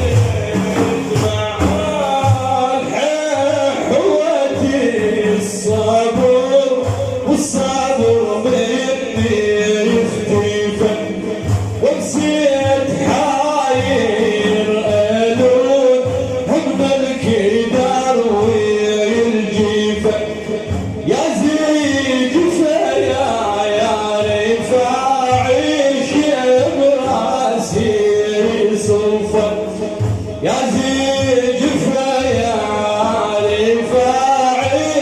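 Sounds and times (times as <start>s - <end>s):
men singing a chant: 0.0s - 35.0s
steady drum beat: 0.0s - 35.0s.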